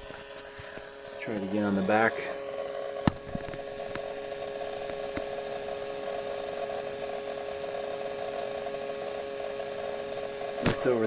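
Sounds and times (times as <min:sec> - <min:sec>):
laptop coil whine: 0:00.0 - 0:11.0.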